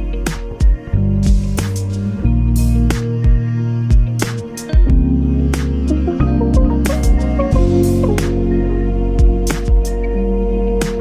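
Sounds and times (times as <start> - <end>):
background music with drums: 0.0 - 8.6, 9.2 - 10.1, 10.8 - 11.0.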